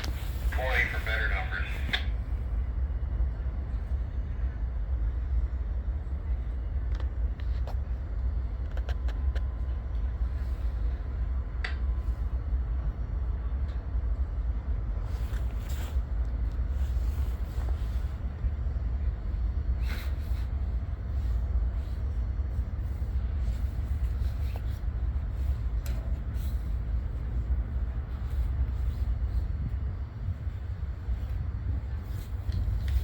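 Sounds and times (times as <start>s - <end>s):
diesel locomotive idling: 0.0s - 33.0s.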